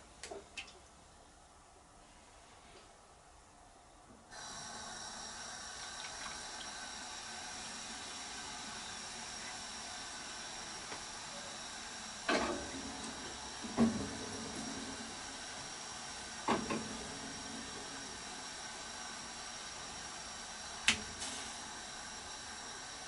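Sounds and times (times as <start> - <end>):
boiling water hissing: 4.3 - 23.0.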